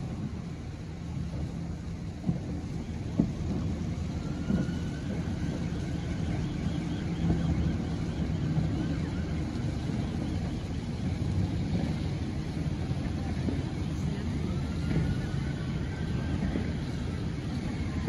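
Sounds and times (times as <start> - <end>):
distant boat engines rumbling: 0.0 - 18.0
wind on microphone: 0.0 - 18.0.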